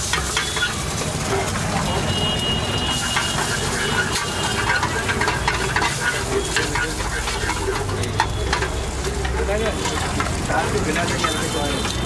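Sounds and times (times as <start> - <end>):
food sizzling in hot oil: 0.0 - 12.0
metal spatula scraping a pan: 0.0 - 12.0.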